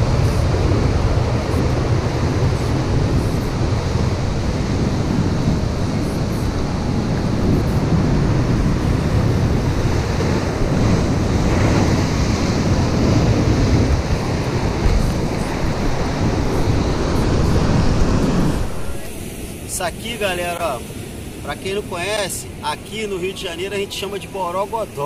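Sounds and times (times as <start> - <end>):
surf breaking on rocks: 0.0 - 23.6
wind buffeting microphone: 0.0 - 25.0.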